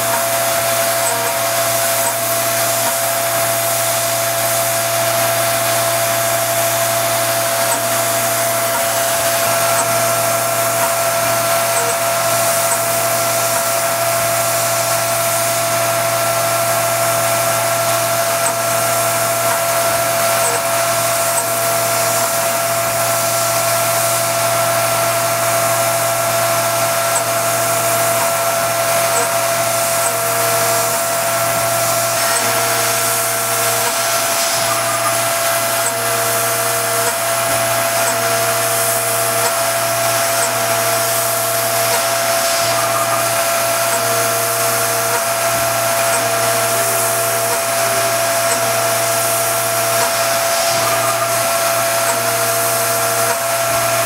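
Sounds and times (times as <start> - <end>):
higher machine tone: 0.0 - 54.0
milling machine spindle whine: 0.0 - 54.0.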